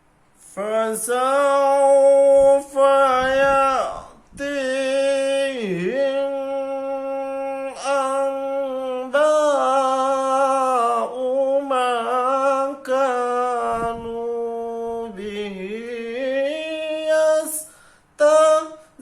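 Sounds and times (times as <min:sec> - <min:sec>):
man chanting recitation: 0:00.4 - 0:19.0.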